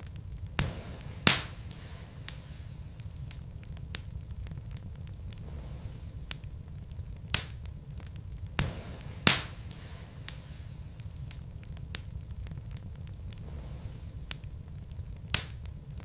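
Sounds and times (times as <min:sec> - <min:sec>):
burning logs crackling and popping: 0:00.0 - 0:16.0
low rumble of fire: 0:00.0 - 0:16.0.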